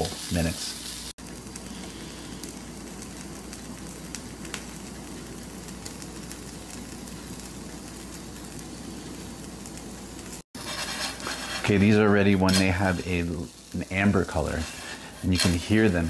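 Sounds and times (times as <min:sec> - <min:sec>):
seeds sizzling in a frying pan: 0:00.0 - 0:16.0.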